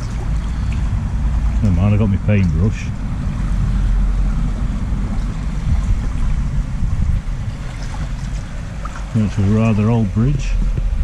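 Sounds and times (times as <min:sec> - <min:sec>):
water sloshing around legs: 0:00.0 - 0:11.0
wind on microphone: 0:00.0 - 0:11.0.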